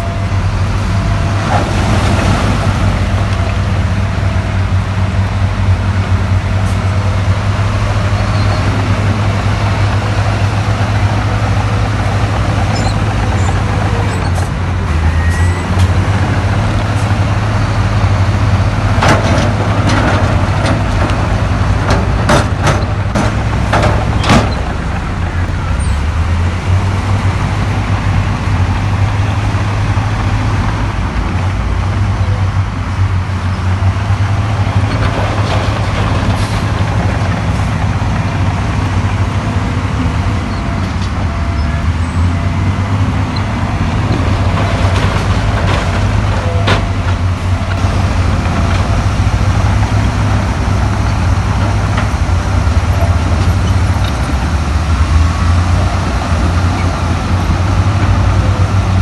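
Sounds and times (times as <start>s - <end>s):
diesel machinery running: 0.0s - 59.0s.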